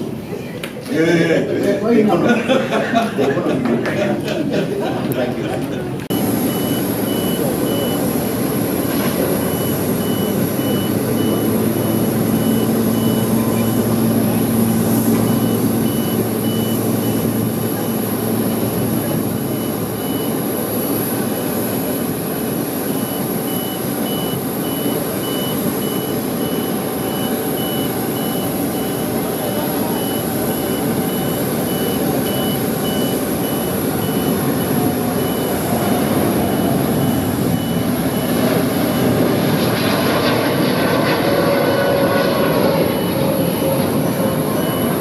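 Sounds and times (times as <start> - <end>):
jet aircraft roar: 2.2 - 45.0
electronic beeping: 6.1 - 22.0, 22.8 - 41.0, 42.1 - 45.0
thin high whine: 6.1 - 45.0.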